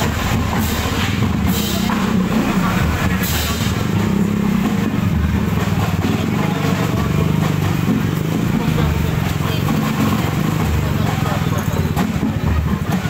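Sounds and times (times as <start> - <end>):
scooter engines droning: 0.0 - 13.0.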